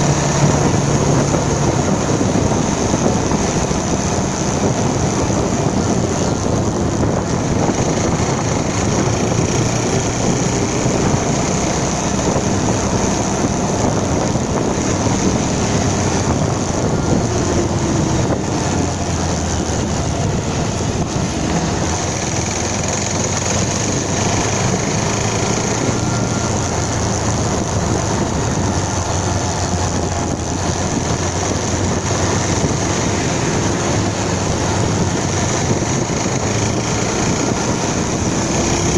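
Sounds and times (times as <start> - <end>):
motorcycle engine running: 0.0 - 38.9
rush of noise: 0.0 - 38.9.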